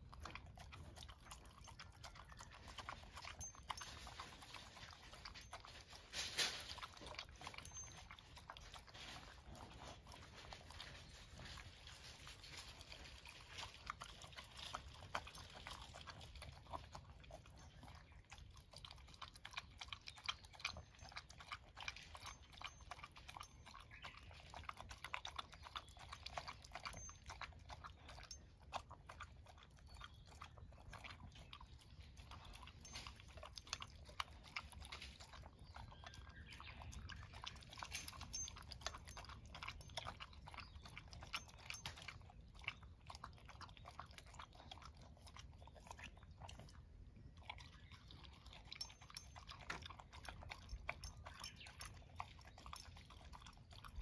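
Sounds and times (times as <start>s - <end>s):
dog chewing crunchy food: 0.0s - 54.0s.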